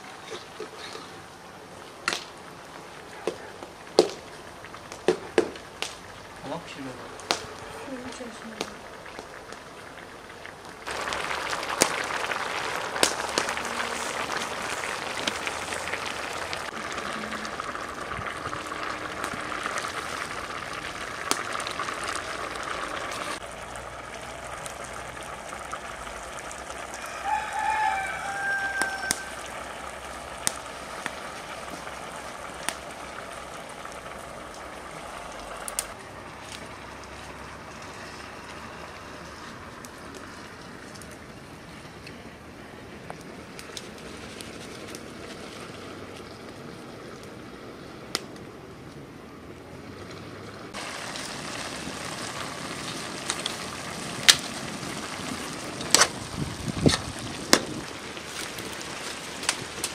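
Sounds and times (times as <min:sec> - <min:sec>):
campfire crackling: 0:00.0 - 0:59.9
liquid boiling in a pot: 0:00.0 - 0:59.9.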